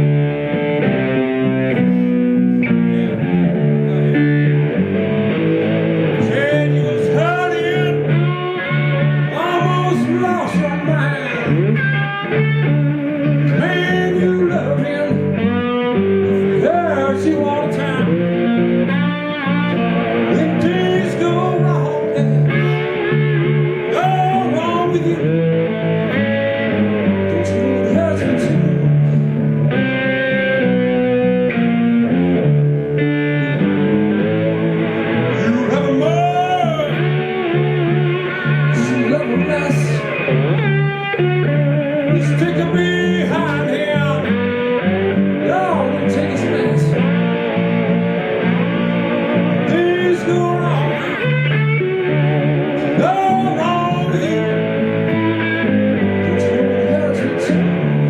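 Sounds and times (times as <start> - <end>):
bass line on guitar: 0.0 - 58.0
electric guitar with bent notes: 0.0 - 58.0.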